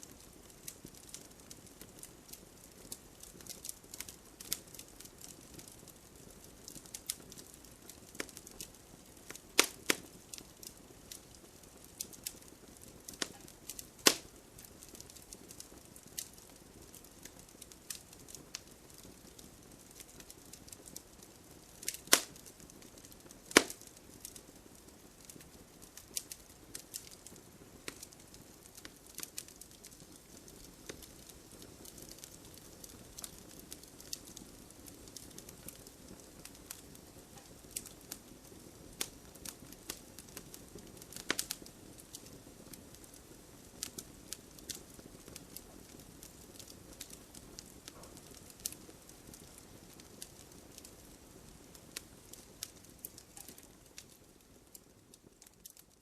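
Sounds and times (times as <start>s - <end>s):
fireplace fire crackling: 0.0s - 56.0s
loud sharp pops of fire: 0.0s - 56.0s.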